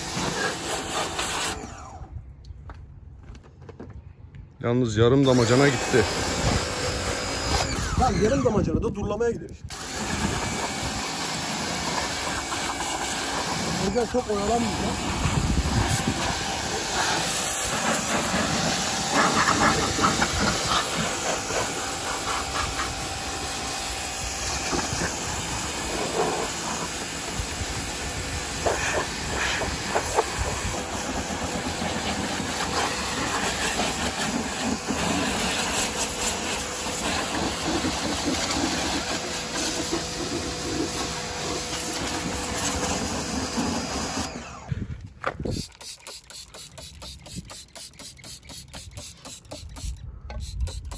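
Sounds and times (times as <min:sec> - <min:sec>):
pressure washer jet hissing: 0:00.0 - 0:01.8, 0:05.2 - 0:08.1, 0:09.7 - 0:44.5, 0:45.5 - 0:50.9.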